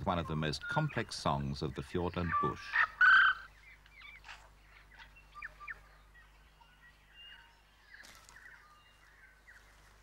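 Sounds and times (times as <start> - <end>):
bird singing faintly: 0.0 - 10.0.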